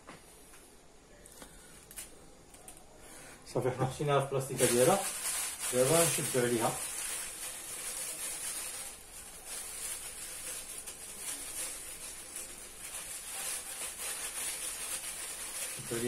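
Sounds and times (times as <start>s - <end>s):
plastic bag crinkling: 1.3s - 3.0s, 4.3s - 16.0s.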